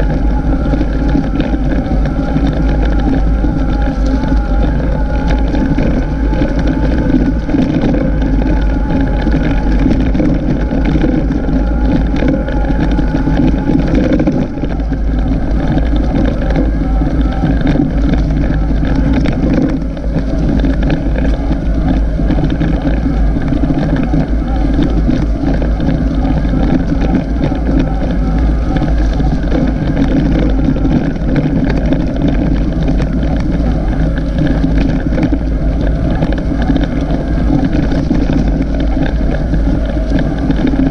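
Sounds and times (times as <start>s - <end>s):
vehicle low rumble: 0.0s - 40.9s
wind buffeting microphone: 0.0s - 40.9s.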